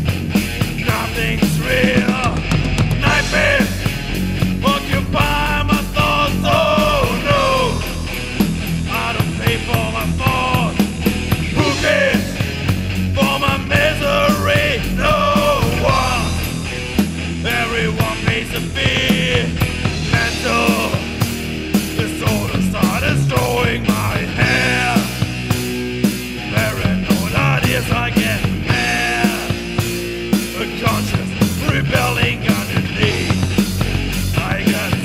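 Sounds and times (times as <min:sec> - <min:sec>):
distorted electric guitars: 0:00.0 - 0:35.0
driving drums and cymbals: 0:00.0 - 0:35.0.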